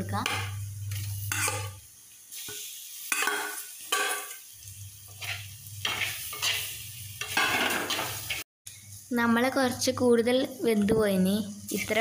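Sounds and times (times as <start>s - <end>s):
low sizzle: 0.0s - 12.0s.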